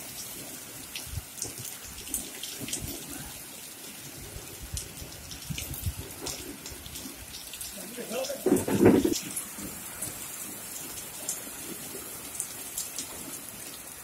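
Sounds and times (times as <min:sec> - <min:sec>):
rain hissing on a road: 0:00.0 - 0:14.0
raindrops ticking on surfaces: 0:00.0 - 0:14.0.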